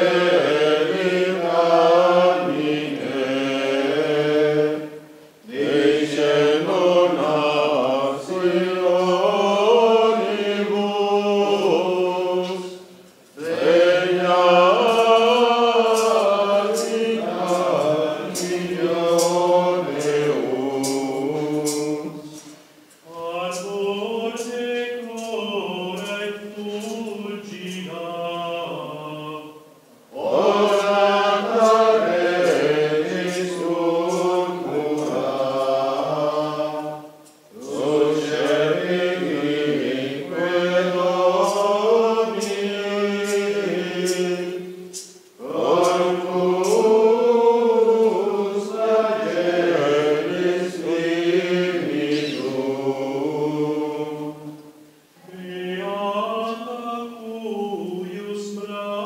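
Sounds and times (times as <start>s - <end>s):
men singing plainchant: 0.0s - 59.0s.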